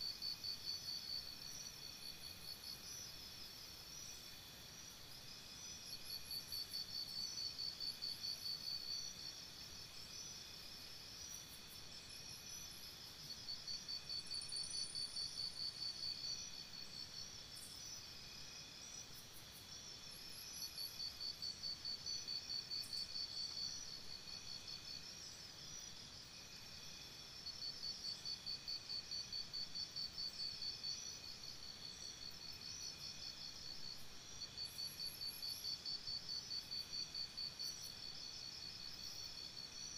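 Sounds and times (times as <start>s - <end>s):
insects chirping in pulsed trills: 0.0s - 39.9s.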